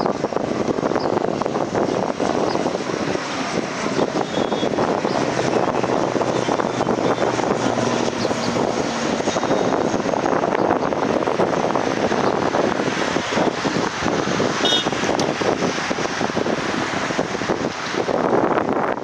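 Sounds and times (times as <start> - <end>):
jet engines running: 0.0 - 18.6.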